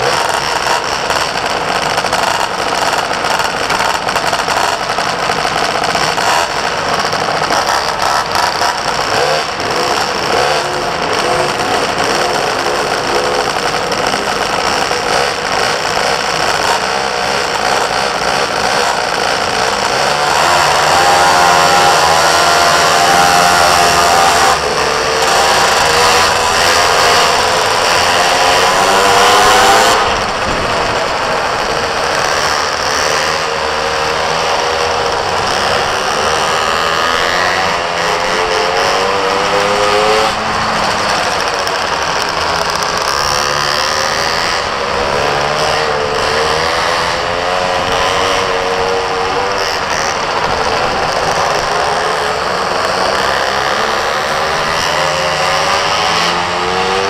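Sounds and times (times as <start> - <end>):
small motorbike engine revving: 0.0 - 57.0.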